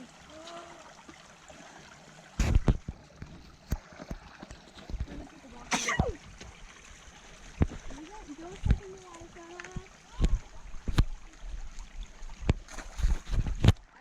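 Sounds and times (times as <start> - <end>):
shallow stream trickling: 0.0 - 14.0.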